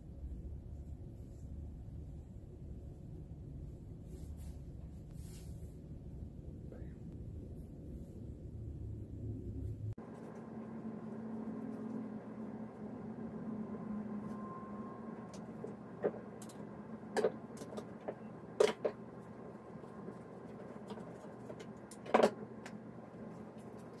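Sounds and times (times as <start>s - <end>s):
faint room hum: 0.0s - 24.0s.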